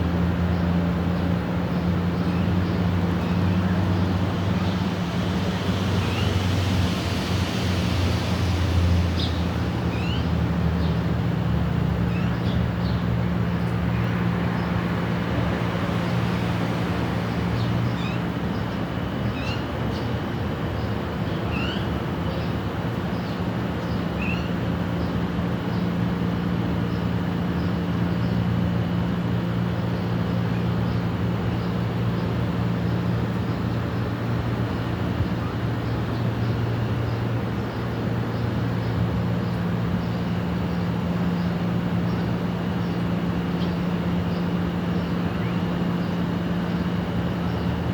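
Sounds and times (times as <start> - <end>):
low traffic drone: 0.0 - 47.9.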